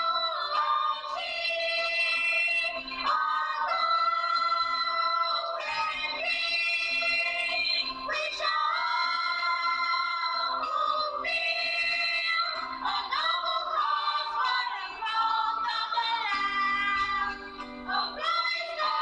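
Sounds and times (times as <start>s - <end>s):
song with singing voice: 0.0s - 19.0s.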